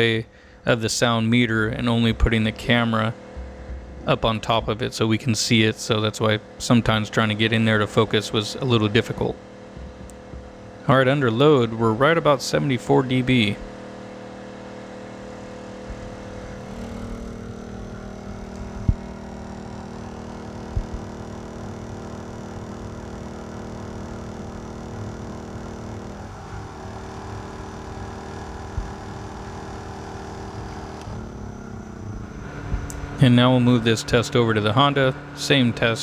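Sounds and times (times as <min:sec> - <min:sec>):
generator running: 0:00.0 - 0:36.0.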